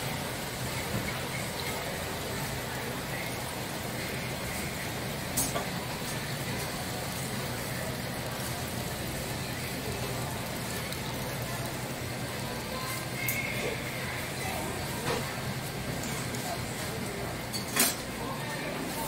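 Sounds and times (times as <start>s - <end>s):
background hum and hiss: 0.0s - 19.0s
faint murmur of voices: 0.0s - 19.0s.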